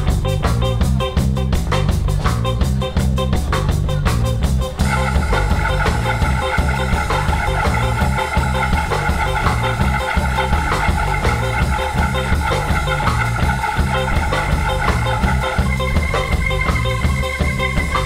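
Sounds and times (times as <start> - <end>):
live band playing reggae: 0.0 - 18.0
organ melody on keyboard: 0.0 - 18.0
repeating bass line: 0.0 - 18.0.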